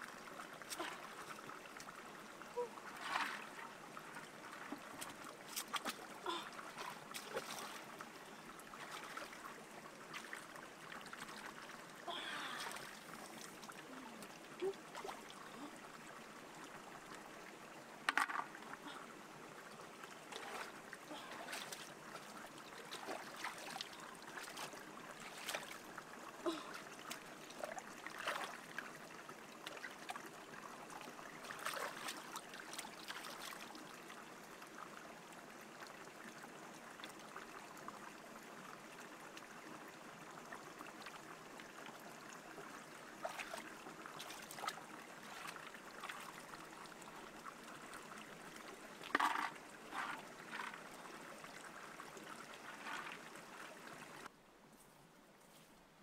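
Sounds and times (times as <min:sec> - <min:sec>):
stream trickling over rocks: 0:00.0 - 0:54.4.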